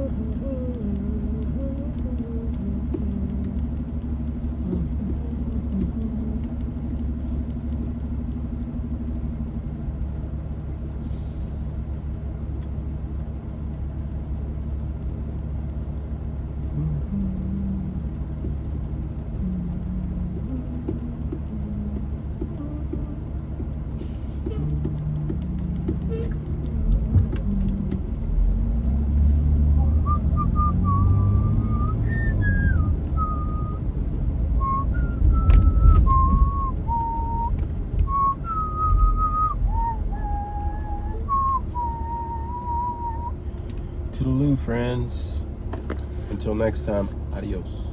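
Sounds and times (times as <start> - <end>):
car rumble from inside cabin: 0.0 - 47.9.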